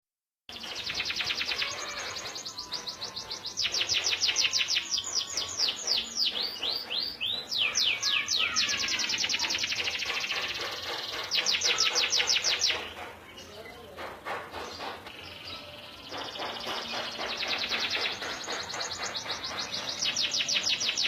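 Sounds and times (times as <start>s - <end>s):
canary singing trills: 0.5s - 21.0s.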